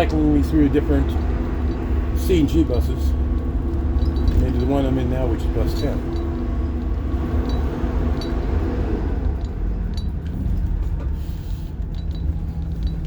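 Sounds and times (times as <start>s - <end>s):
diesel engine rumble: 0.0s - 13.0s
light clinking rattles: 0.0s - 13.0s.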